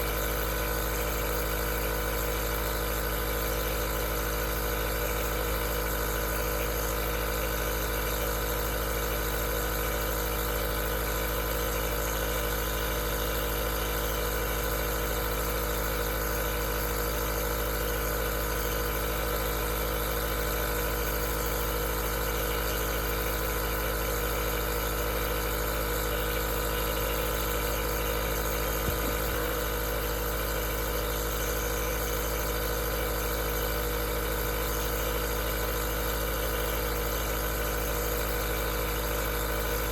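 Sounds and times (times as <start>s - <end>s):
compressor humming: 0.0s - 39.9s.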